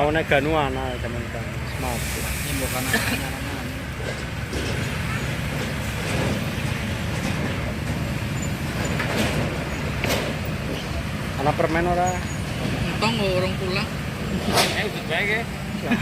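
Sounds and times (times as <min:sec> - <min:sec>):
heavy vehicle engines rumbling: 0:00.0 - 0:16.0.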